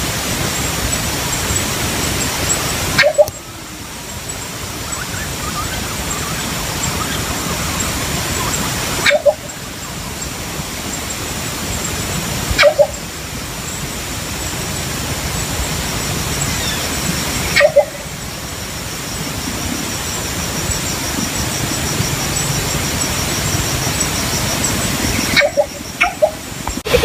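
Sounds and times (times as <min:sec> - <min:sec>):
background hiss: 0:00.0 - 0:27.0
thin high steady tone: 0:00.5 - 0:27.0.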